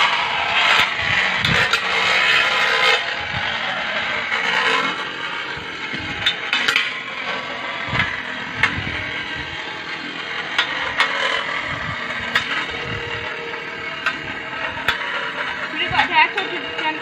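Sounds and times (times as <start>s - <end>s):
spinning tops whirring on metal dish: 0.0s - 17.0s.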